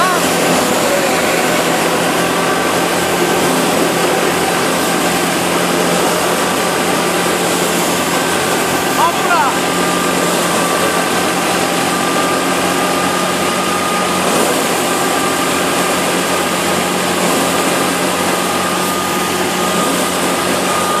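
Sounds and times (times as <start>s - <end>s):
steady machine whine: 0.0s - 21.0s
thresher drum whirring: 0.0s - 21.0s.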